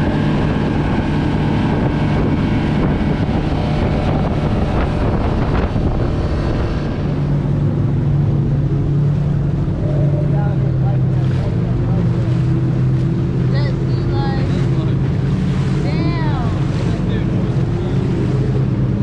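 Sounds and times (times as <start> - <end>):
motorboat engine running: 0.0 - 19.0
water rushing from hull: 0.0 - 19.0
wind buffeting microphone: 0.0 - 19.0.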